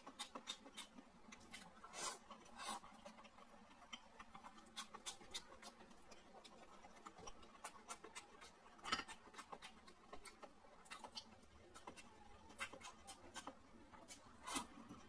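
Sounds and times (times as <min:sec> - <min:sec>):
chewing and lip-smacking: 0:00.0 - 0:15.0.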